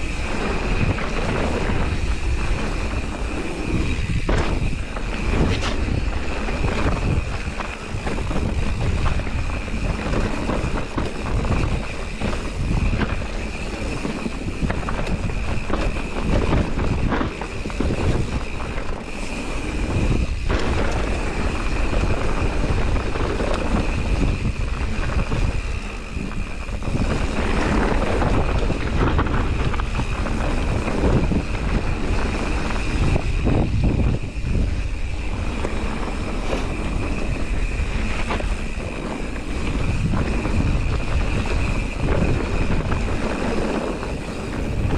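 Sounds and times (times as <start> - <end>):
bike rattling over bumps: 0.0 - 44.9
tyres rolling on dirt: 0.0 - 44.9
wind on microphone: 0.0 - 44.9.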